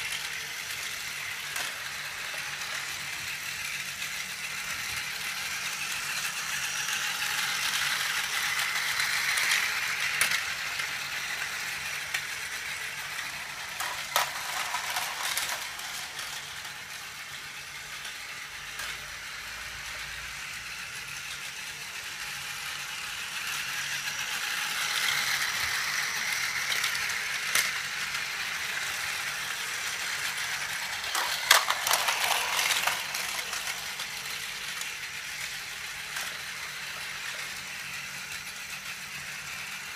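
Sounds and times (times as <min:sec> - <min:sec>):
toy train motors whirring: 0:00.0 - 0:39.9
toy train wheels rattling: 0:00.0 - 0:39.9.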